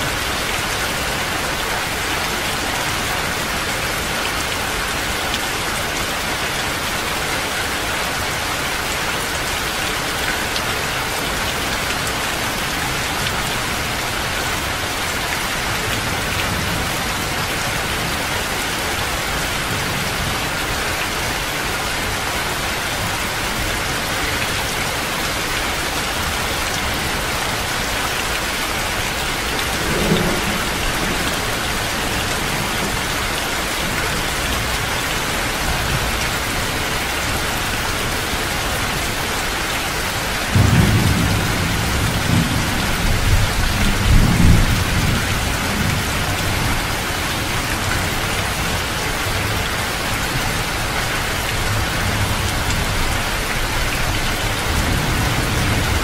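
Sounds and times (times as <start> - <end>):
heavy rain pouring off roof: 0.0 - 56.0.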